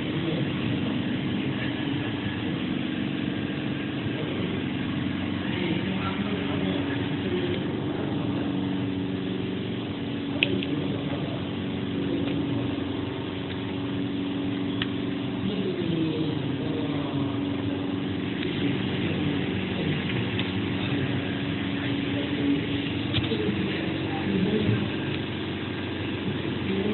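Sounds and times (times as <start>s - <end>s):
cutting machine humming: 0.0s - 26.9s.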